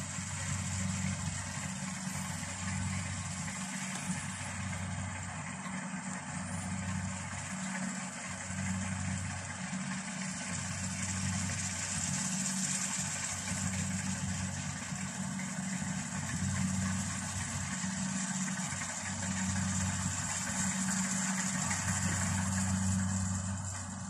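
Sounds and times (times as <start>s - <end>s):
large engine humming: 0.0s - 24.0s
steady high hiss: 0.0s - 24.0s.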